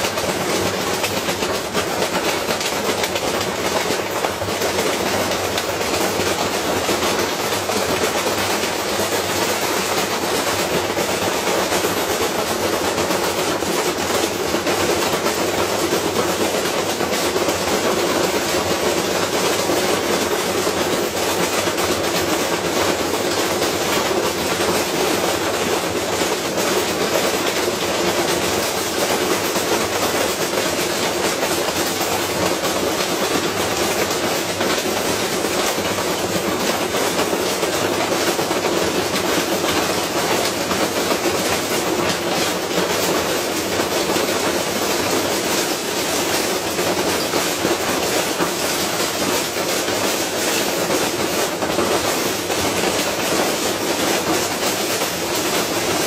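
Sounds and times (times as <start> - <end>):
washing machine spinning and rattling: 0.0 - 56.0.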